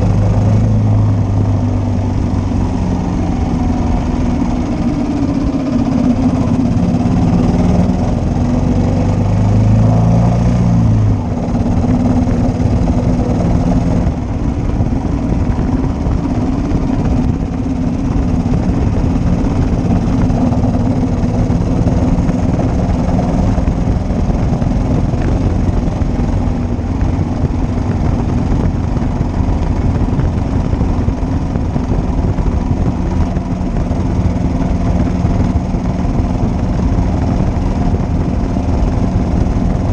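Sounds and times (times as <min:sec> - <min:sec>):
motorcycle engine running: 0:00.0 - 0:39.9
road rumble: 0:00.0 - 0:39.9
wind noise: 0:00.0 - 0:39.9.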